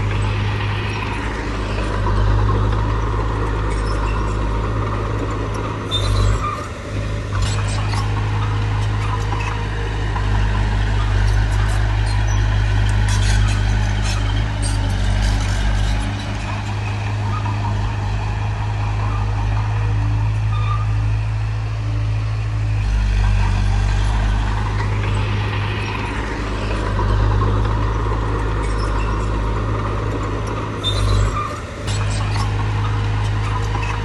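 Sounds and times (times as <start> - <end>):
heavy diesel engine running: 0.0 - 34.0.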